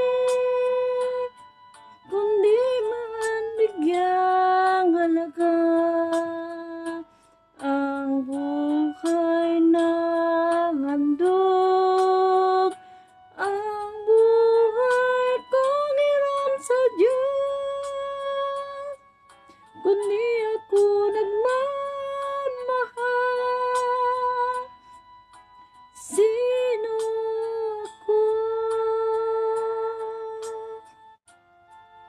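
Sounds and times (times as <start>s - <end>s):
woman singing a slow ballad: 0.0s - 1.4s, 2.1s - 24.8s, 26.0s - 31.0s.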